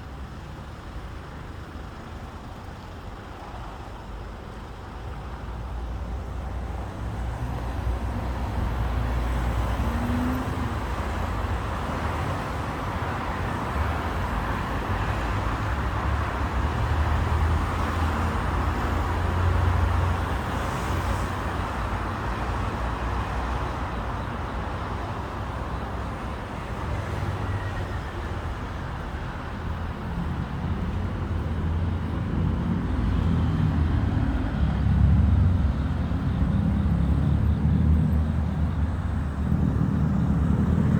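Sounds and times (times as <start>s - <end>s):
cars passing with low rumble: 0.0s - 40.9s.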